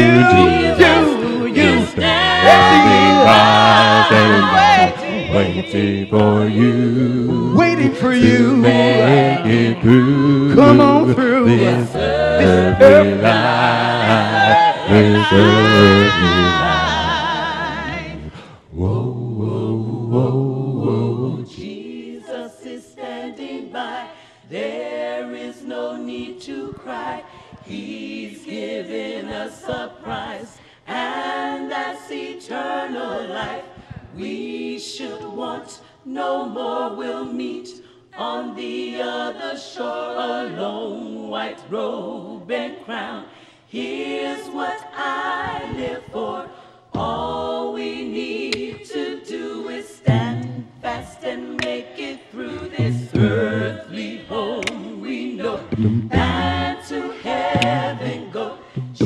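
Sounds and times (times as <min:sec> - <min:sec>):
women singing in harmony: 0:00.0 - 0:59.0.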